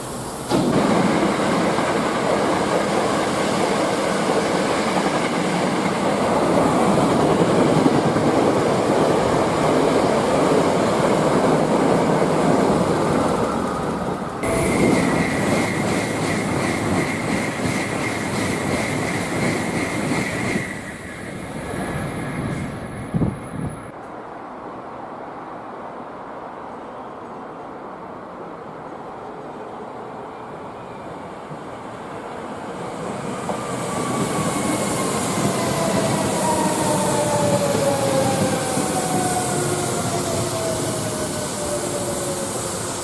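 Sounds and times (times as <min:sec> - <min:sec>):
train wheels rumbling on rail: 0:00.0 - 0:24.2, 0:31.2 - 0:43.0.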